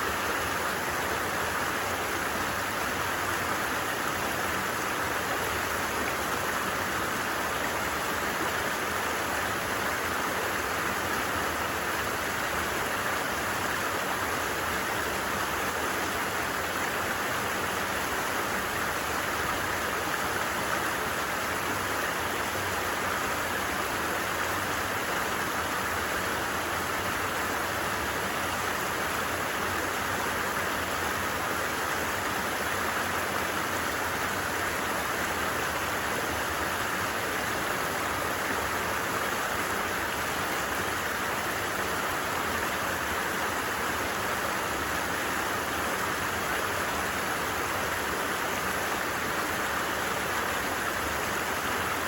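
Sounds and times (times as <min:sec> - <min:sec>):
stream water running: 0:00.0 - 0:52.0.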